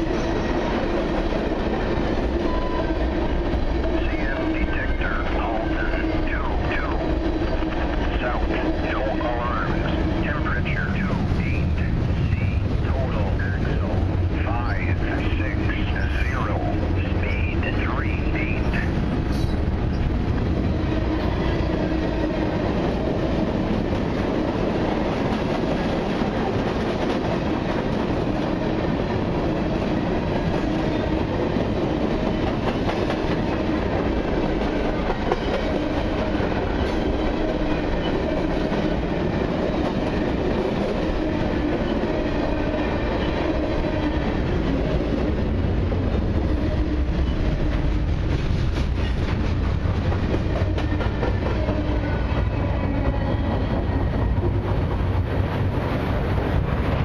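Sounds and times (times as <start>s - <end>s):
freight train wheels on rail: 0.0s - 57.0s.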